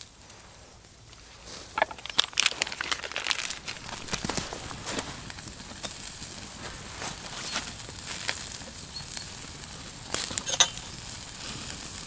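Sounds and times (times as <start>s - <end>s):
campfire crackling: 0.0s - 12.0s
steak sizzling on a grill: 1.5s - 12.0s.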